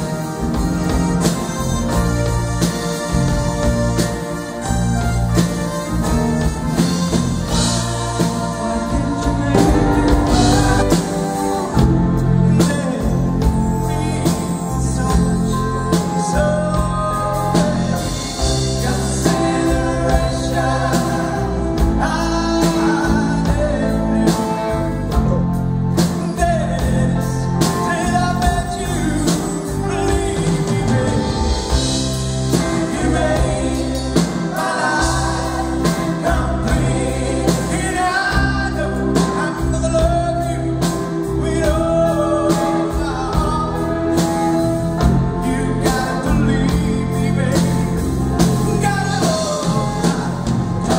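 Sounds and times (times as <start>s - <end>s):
drums: 0.0s - 50.9s
man singing: 7.4s - 31.8s, 32.4s - 50.9s.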